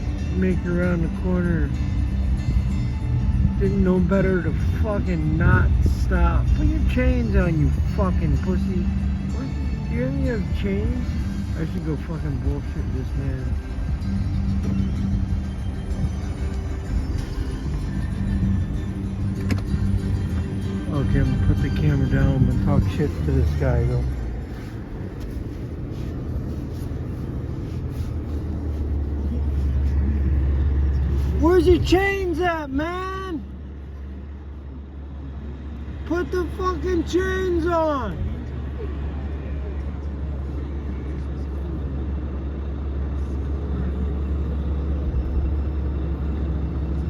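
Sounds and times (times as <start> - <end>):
vehicle engine rumbling: 0.0 - 47.0.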